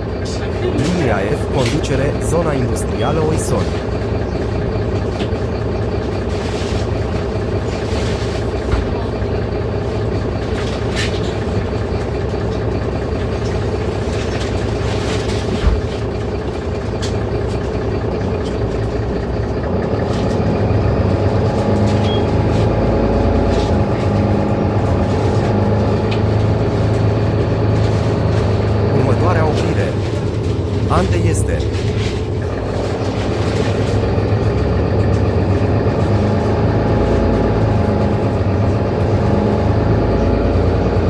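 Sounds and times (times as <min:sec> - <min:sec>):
bus diesel engine idling and revving: 0:00.0 - 0:41.0.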